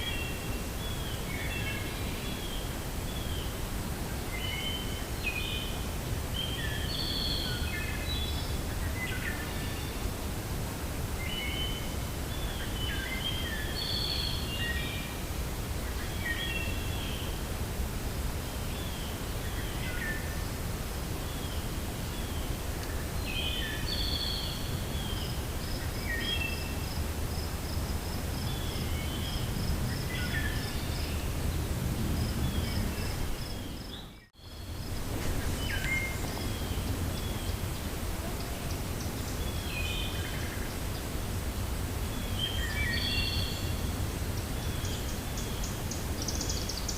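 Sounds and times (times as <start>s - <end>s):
songbird chirps and calls: 0.0s - 10.1s, 11.2s - 15.2s, 21.2s - 41.2s, 42.1s - 46.9s
low wind rumble: 0.0s - 46.9s.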